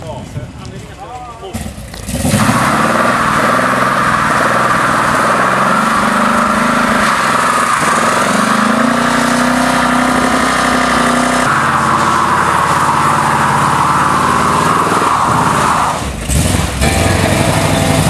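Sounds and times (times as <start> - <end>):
tyres spinning on pavement: 1.5 - 17.8
car engine at high revs: 1.6 - 18.0.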